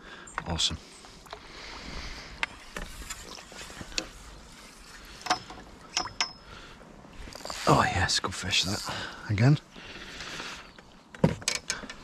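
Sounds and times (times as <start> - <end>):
water splashing and sloshing: 0.4 - 12.0.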